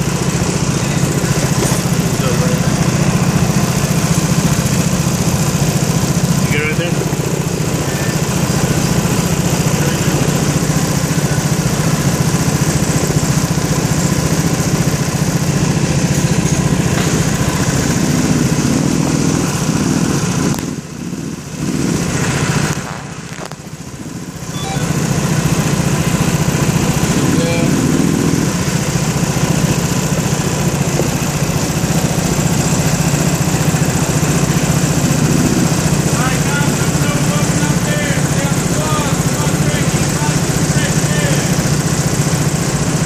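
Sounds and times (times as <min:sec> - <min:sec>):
go-kart engines droning: 0:00.0 - 0:43.0.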